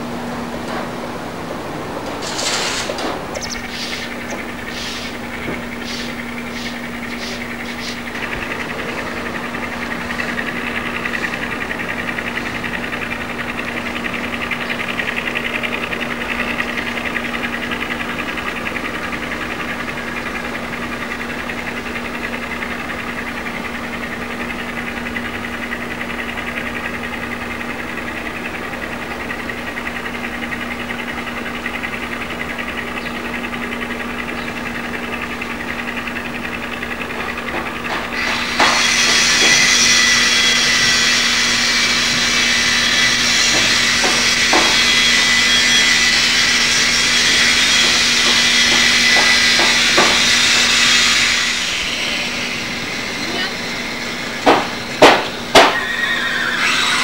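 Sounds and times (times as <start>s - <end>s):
mechanical hum and whir: 0.0s - 57.0s.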